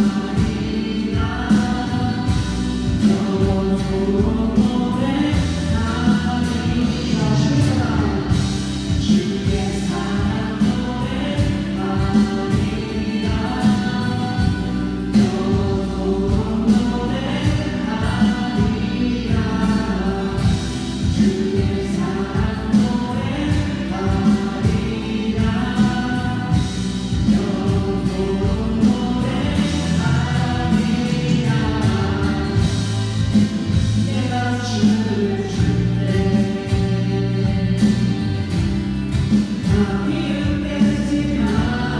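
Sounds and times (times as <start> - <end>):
group singing worship song: 0.0 - 41.9.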